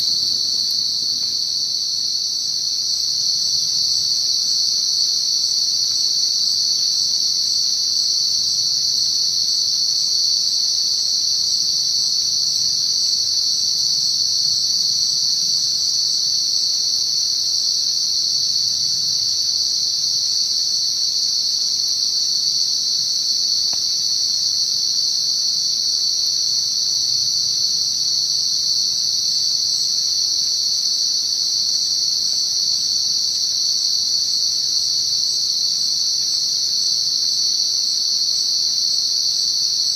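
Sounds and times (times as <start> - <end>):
night insects buzzing: 0.0 - 39.9.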